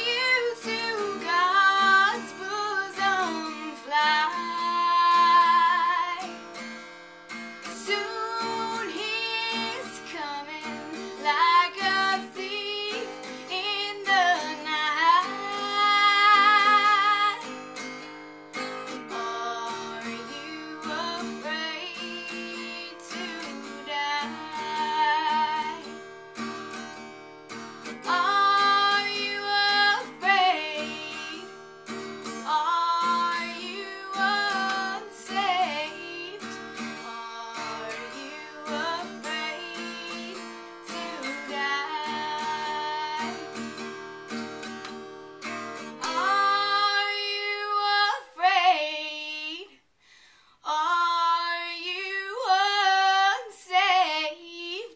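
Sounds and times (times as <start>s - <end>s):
woman singing: 0.0s - 6.6s, 7.6s - 18.0s, 18.8s - 26.1s, 27.8s - 44.0s, 45.5s - 49.9s, 50.6s - 54.9s
strummed acoustic guitar: 0.0s - 49.2s.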